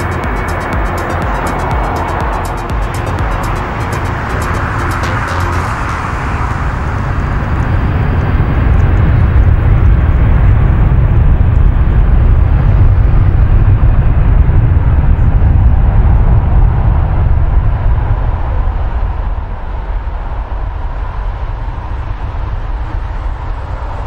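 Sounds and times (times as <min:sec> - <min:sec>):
jet engines rumbling at takeoff: 0:00.0 - 0:24.0.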